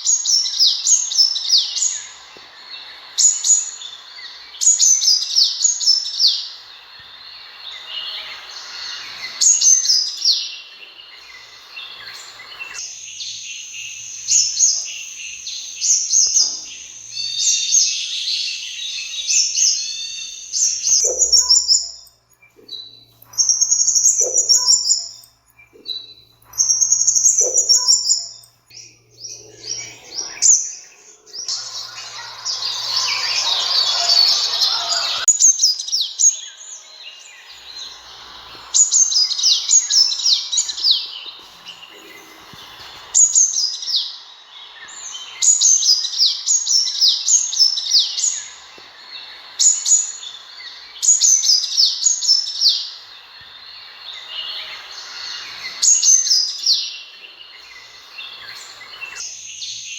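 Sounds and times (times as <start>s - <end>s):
bird chirping and trilling: 0.0s - 48.7s.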